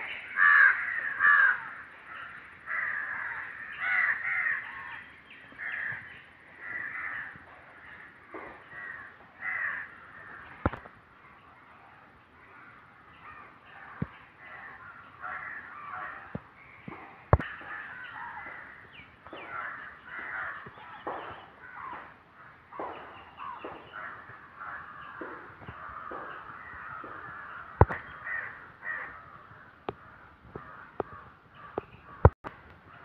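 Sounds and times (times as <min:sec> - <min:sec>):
birds cawing harshly: 0:00.0 - 0:11.0, 0:12.4 - 0:33.0.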